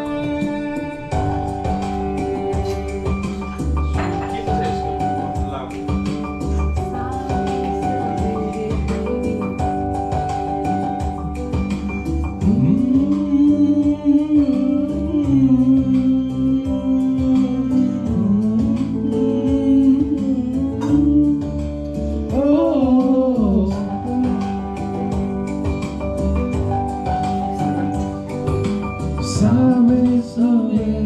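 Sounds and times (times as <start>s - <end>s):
person singing slow melody: 0.0s - 25.8s, 27.0s - 31.0s
guitar backing track: 0.0s - 31.0s.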